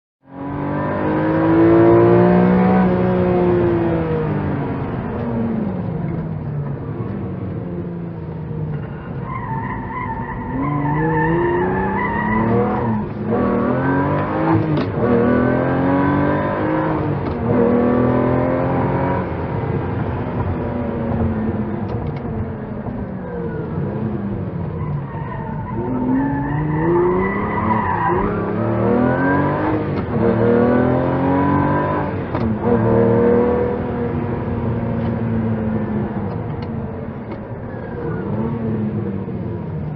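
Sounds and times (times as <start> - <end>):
car engine revving: 0.3 - 39.9.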